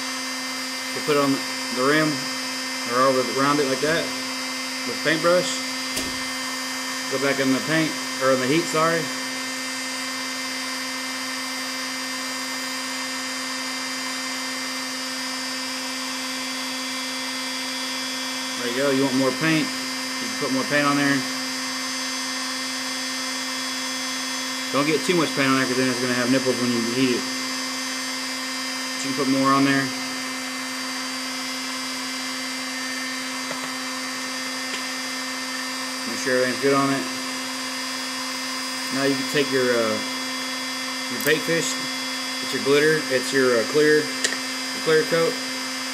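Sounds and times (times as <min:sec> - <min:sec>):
small electric motor whirring: 0:00.0 - 0:45.9.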